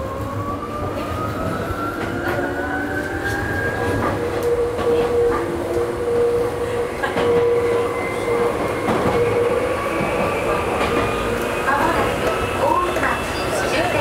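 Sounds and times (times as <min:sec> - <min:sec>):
electric train hum and whine: 0:00.0 - 0:14.0.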